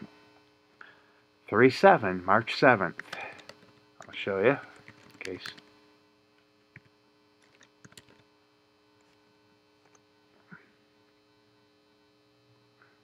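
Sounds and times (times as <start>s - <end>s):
faint mains hum: 0.0s - 13.0s.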